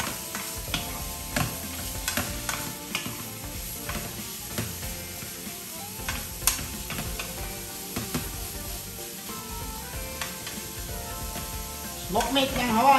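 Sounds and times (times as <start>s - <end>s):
meat sizzling in a frying pan: 0.0s - 12.9s
spatula scraping a pan: 0.0s - 12.9s.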